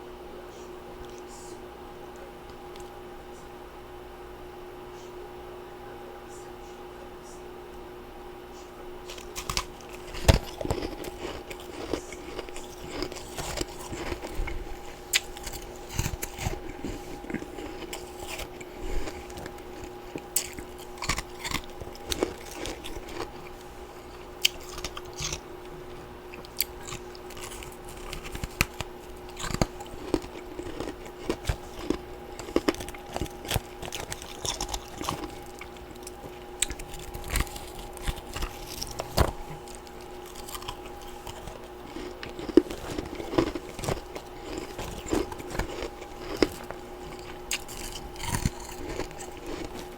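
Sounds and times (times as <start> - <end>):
steady hum: 0.0 - 49.9
crunching and chewing ice: 9.0 - 49.9.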